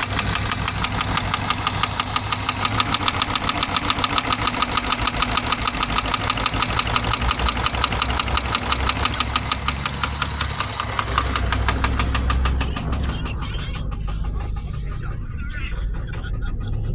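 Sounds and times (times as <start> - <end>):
engine running with rapid knock: 0.0 - 16.9.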